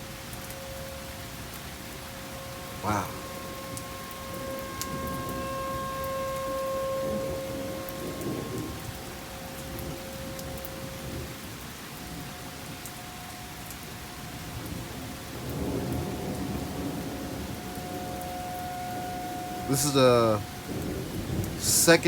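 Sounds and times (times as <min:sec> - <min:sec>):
rain falling: 0:00.0 - 0:22.0
thunder rumbling: 0:00.0 - 0:22.0
warning siren steady tone: 0:00.0 - 0:22.0.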